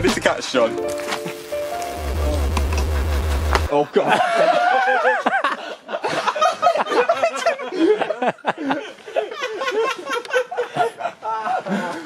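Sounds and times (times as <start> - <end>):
people laughing and exclaiming: 2.2 - 12.0.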